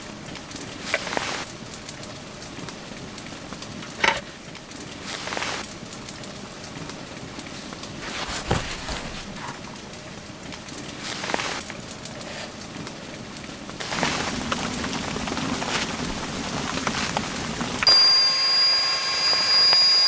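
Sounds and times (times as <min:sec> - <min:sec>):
steady hiss: 0:00.0 - 0:20.0
wood fire crackling: 0:00.0 - 0:20.0.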